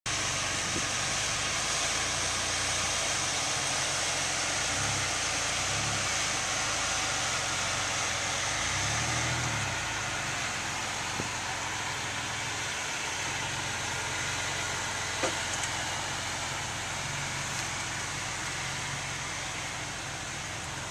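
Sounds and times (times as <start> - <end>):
car engine and road noise: 0.1 - 20.9.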